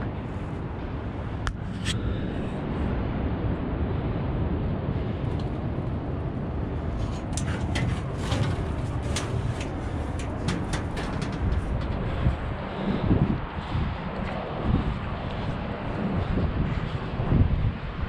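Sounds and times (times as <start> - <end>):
city traffic: 0.0 - 18.0
wind buffeting microphone: 0.0 - 18.0.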